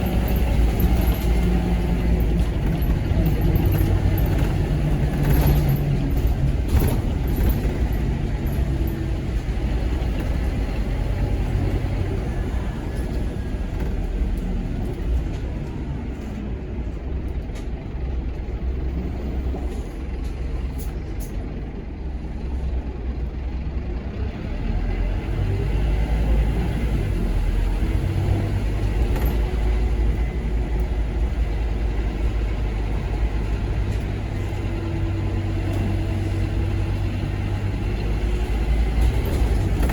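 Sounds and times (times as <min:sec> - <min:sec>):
bus diesel engine under way: 0:00.0 - 0:39.9.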